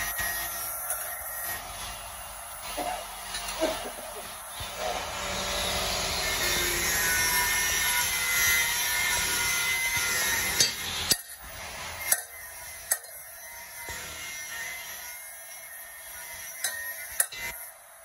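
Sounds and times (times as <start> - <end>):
hot steel blade hissing: 0.0 - 18.0.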